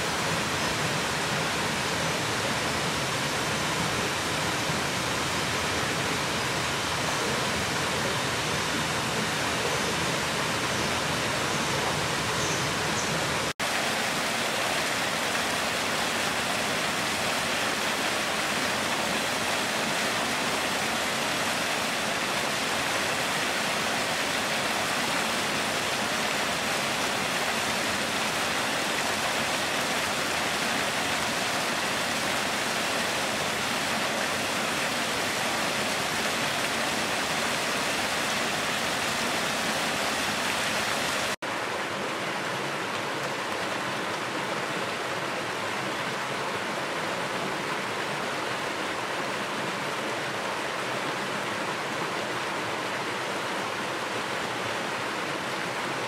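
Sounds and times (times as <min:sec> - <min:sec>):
stream water rushing over rocks: 0:00.0 - 0:56.0.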